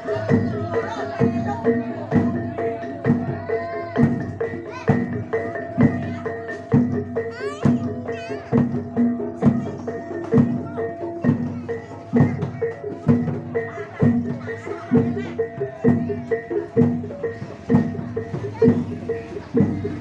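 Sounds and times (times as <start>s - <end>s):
gamelan music: 0.0s - 20.0s.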